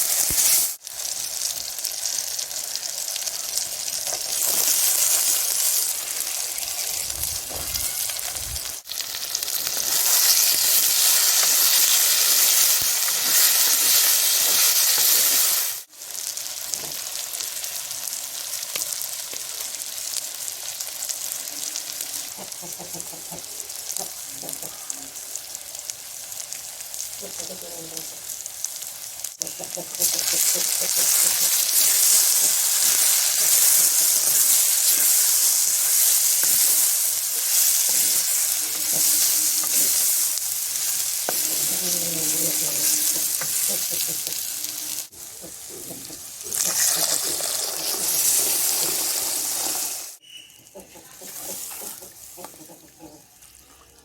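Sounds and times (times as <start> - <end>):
food sizzling in hot oil: 0.0 - 50.2, 51.0 - 54.0.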